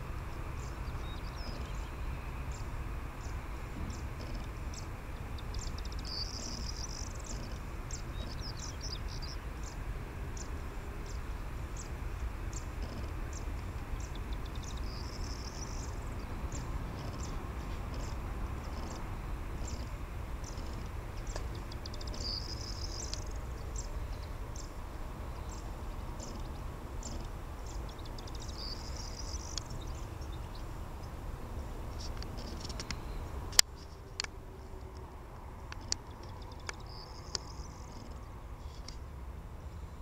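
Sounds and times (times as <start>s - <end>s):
jet engines idling: 0.0s - 38.4s
small birds chirping: 0.0s - 40.0s.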